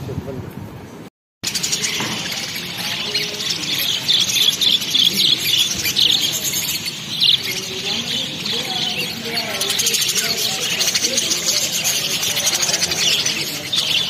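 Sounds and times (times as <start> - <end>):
small birds chirping: 1.4 - 14.0.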